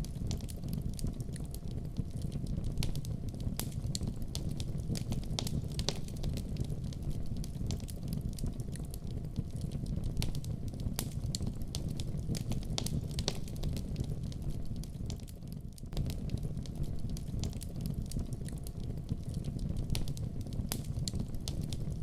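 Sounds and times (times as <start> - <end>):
wood fire burning: 0.0 - 22.0.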